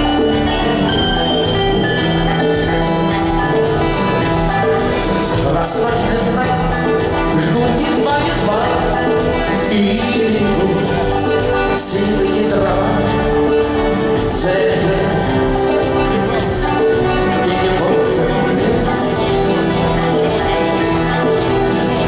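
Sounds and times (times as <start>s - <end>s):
rock band playing live: 0.0s - 22.0s
steady drum beat: 0.0s - 22.0s.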